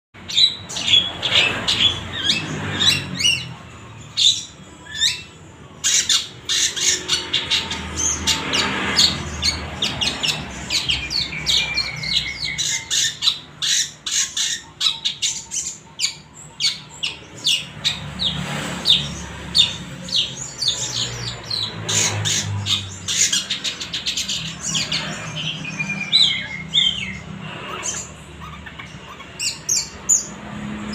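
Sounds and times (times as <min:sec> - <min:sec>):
shrike singing harsh chatter: 0:00.2 - 0:30.9.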